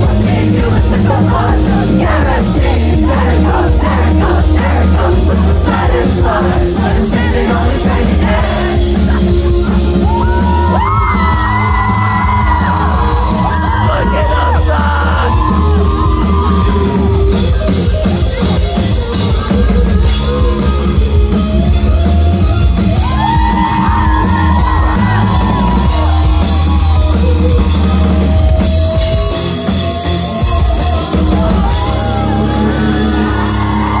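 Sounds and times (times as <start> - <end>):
live rock band: 0.0 - 34.0.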